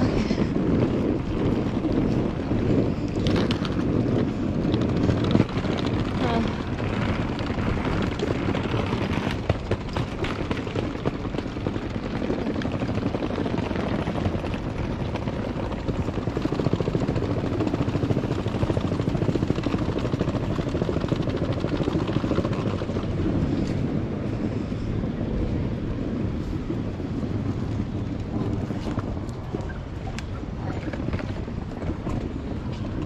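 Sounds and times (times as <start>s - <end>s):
suitcase wheels rattling on paving: 0.0s - 33.0s.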